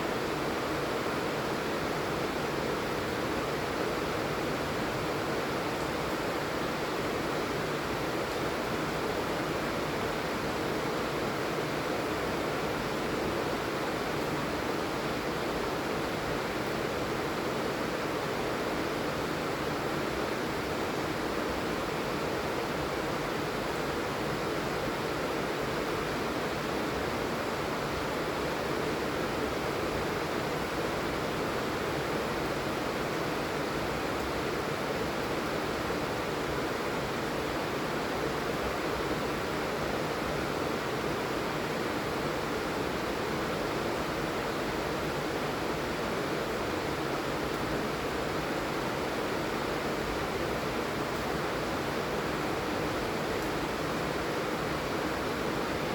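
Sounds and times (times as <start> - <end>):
heavy rain: 0.1 - 55.9.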